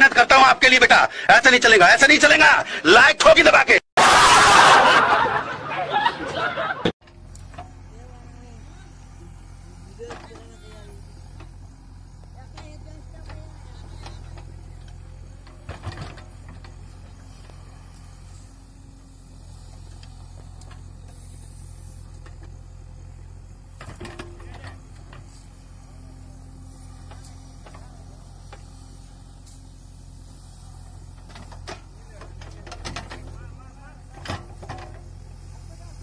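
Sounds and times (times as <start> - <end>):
diesel engine running: 4.0 - 36.0.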